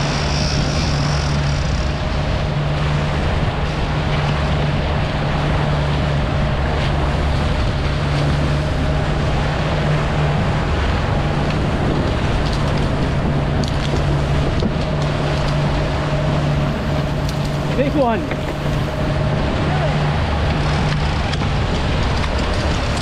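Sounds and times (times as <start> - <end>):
boat engine humming: 0.0 - 23.0
water rushing past hull: 0.0 - 23.0
wind: 0.0 - 23.0.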